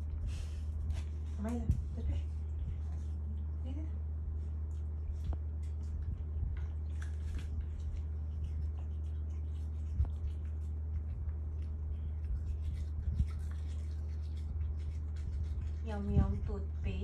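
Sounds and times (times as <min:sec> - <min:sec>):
puppy chewing and licking: 0:00.0 - 0:17.0
steady low hum: 0:00.0 - 0:17.0.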